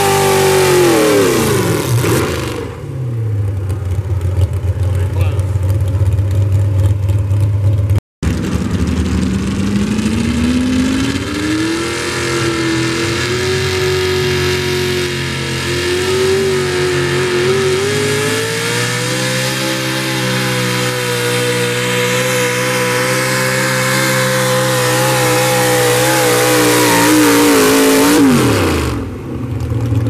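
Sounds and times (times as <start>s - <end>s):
pickup engine revving high: 0.0s - 7.4s, 8.2s - 29.6s
truck engine at full throttle: 0.0s - 30.0s.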